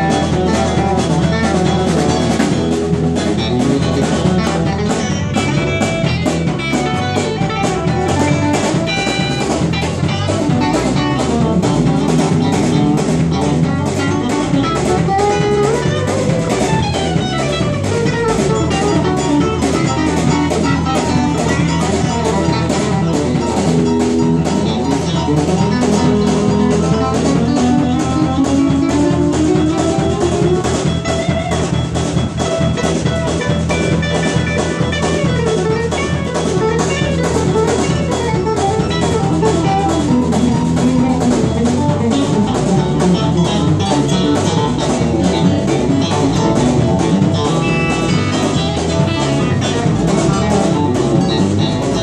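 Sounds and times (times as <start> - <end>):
drum kit beat: 0.0 - 52.0
electronic keyboards playing chords: 0.0 - 52.0.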